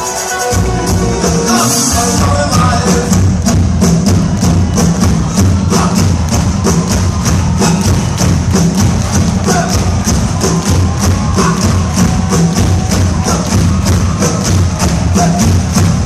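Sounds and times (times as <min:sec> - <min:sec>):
fast steady drum beat: 0:00.0 - 0:16.0
loud live rock band: 0:00.0 - 0:16.0.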